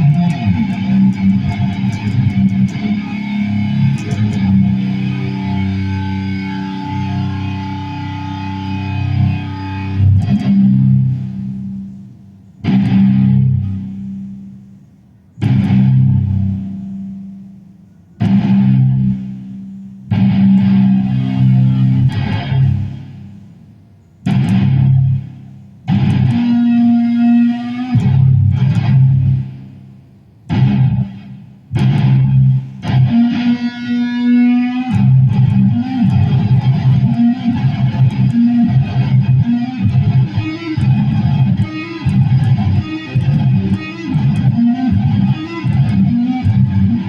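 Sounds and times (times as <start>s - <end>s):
guitar chords ringing: 0.0s - 47.0s.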